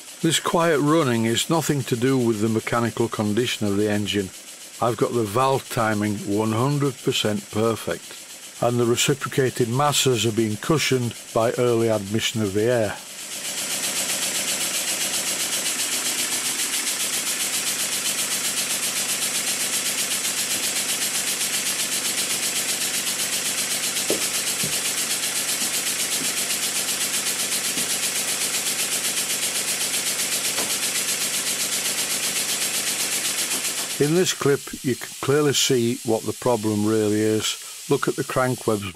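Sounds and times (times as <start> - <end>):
air hissing: 0.0 - 38.9
model steam engine running: 0.0 - 38.9.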